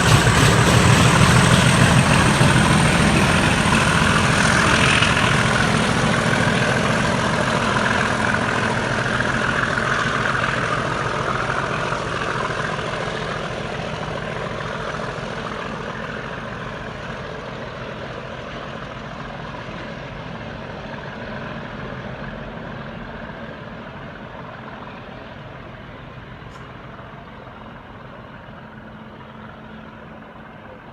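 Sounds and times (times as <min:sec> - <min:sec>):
diesel locomotive engine running: 0:00.0 - 0:30.9.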